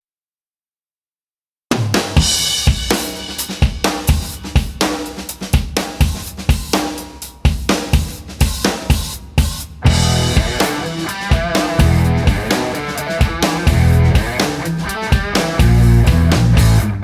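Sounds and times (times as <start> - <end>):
drum kit beat music: 1.7 - 17.0.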